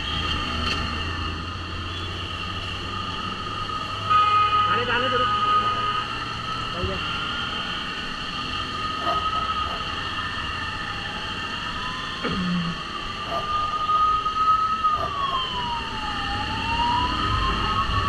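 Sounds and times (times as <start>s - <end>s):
ambulance siren wailing: 0.0s - 18.0s
traffic noise: 0.0s - 18.0s.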